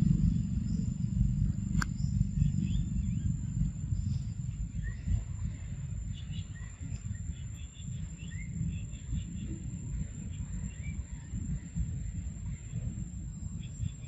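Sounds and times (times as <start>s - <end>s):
high insect-like whine: 0.0s - 14.0s
low uneven rumble: 0.0s - 14.0s
small birds chirping: 0.0s - 14.0s.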